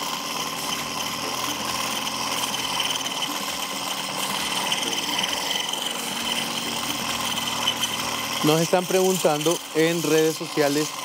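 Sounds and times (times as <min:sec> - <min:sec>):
electric mixer whipping in glass bowl: 0:00.0 - 0:11.0.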